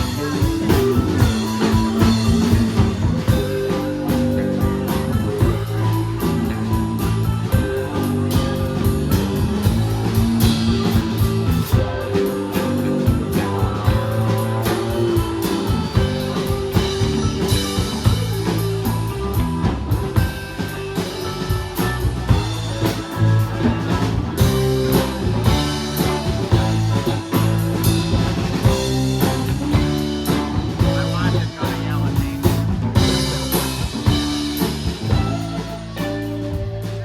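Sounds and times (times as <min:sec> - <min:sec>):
drum kit beat: 0:00.0 - 0:37.0
electric guitar: 0:00.0 - 0:37.0.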